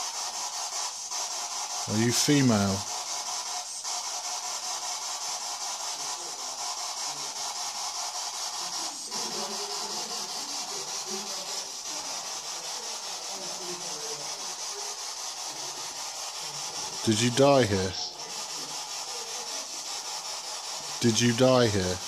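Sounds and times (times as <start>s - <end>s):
pulsing static hiss: 0.0s - 12.6s, 13.2s - 18.3s, 19.9s - 22.0s.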